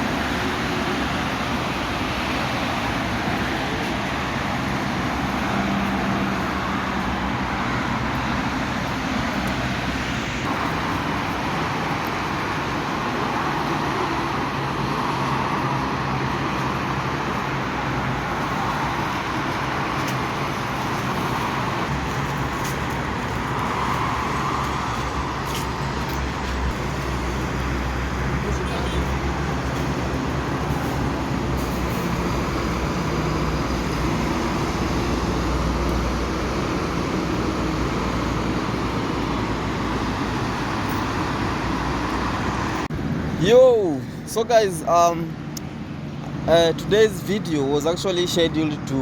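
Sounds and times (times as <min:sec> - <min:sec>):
highway traffic noise: 0:00.0 - 0:49.0.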